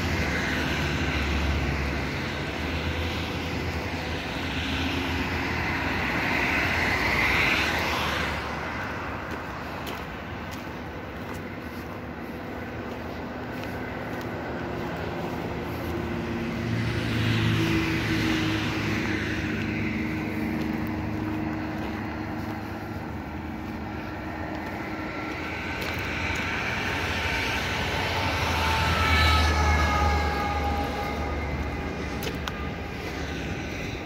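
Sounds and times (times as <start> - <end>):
vehicles passing by: 0.0 - 34.0.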